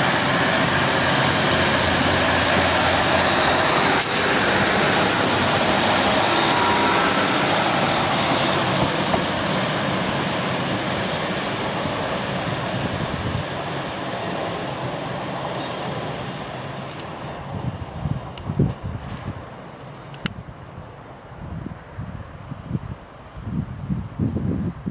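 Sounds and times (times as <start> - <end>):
train wheels rumbling on rails: 0.0 - 20.5.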